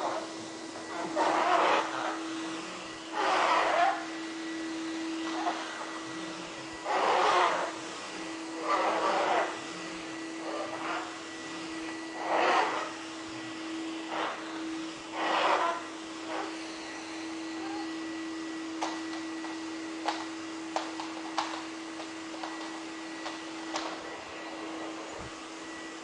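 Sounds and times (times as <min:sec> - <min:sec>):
vacuum cleaner humming: 0:00.0 - 0:26.0.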